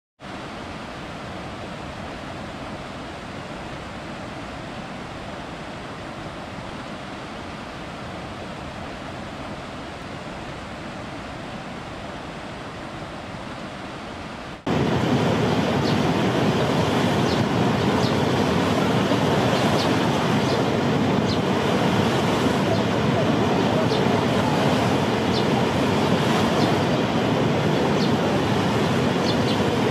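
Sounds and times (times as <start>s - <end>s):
stream rushing over rocks: 0.2s - 29.9s
waterfall roaring: 0.3s - 29.9s.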